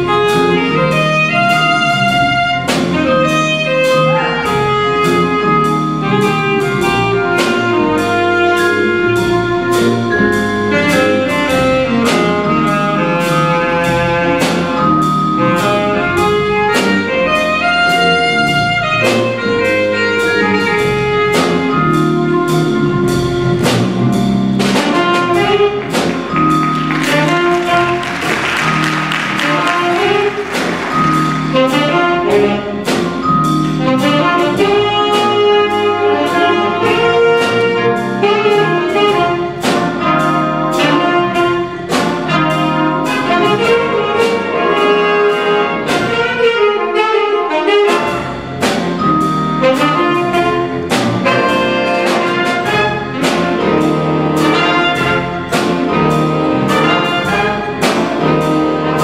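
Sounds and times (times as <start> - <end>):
drum kit beat: 0.0 - 59.0
saxophone and brass sections: 0.0 - 59.0.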